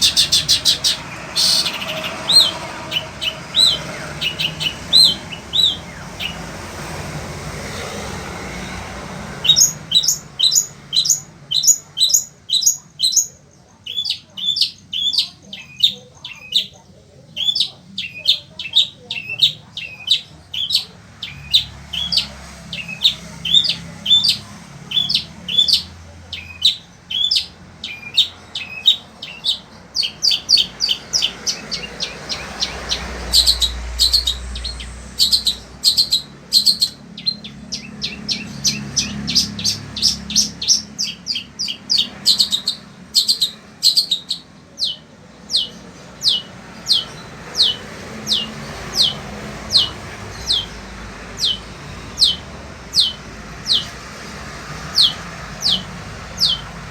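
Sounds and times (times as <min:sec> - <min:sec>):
bird singing sharp high notes: 0:00.0 - 0:06.7, 0:08.4 - 0:54.0.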